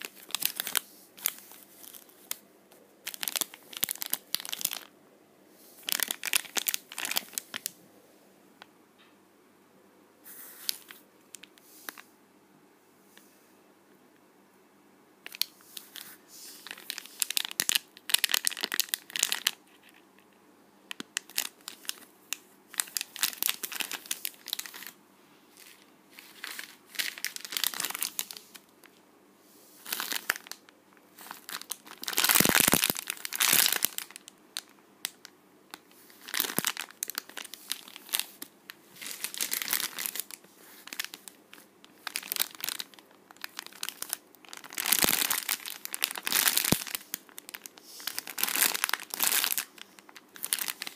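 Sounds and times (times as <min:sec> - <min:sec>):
plastic packaging crinkling: 0:00.0 - 0:02.4, 0:03.0 - 0:04.9, 0:05.6 - 0:07.8, 0:10.3 - 0:12.1, 0:15.2 - 0:20.3, 0:20.9 - 0:25.0, 0:25.6 - 0:29.0, 0:29.8 - 0:50.9.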